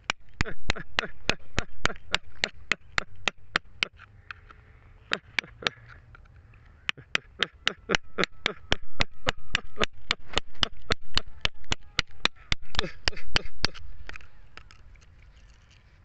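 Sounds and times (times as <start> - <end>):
chisel tapping on rock: 0.0 - 4.5, 5.1 - 5.8, 6.9 - 14.8.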